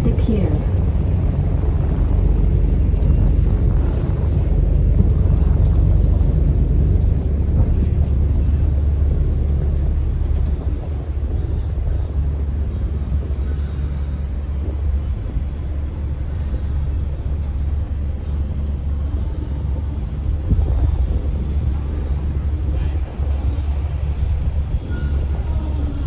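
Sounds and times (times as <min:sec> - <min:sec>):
boat engine rumbling: 0:00.0 - 0:26.0
wind buffeting microphone: 0:00.0 - 0:26.0.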